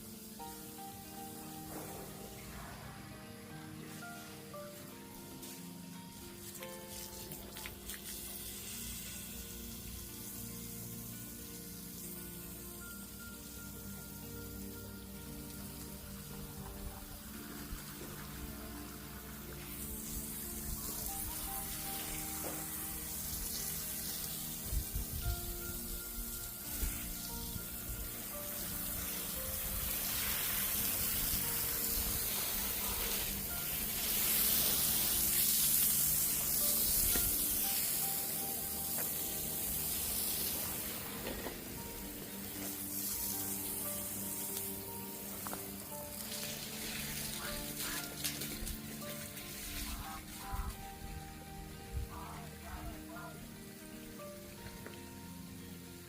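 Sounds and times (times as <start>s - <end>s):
background music: 0.0s - 56.0s
steady hiss: 0.0s - 56.0s.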